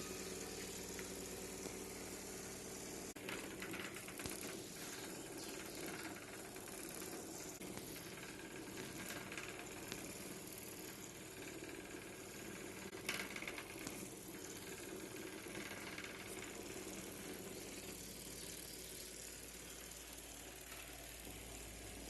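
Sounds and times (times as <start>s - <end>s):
small motor whirring: 0.0s - 22.0s.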